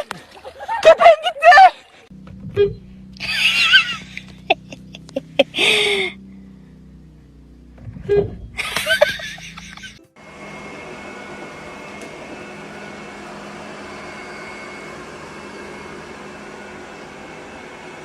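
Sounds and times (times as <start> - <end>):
machine hum with high whine: 2.1 - 18.0.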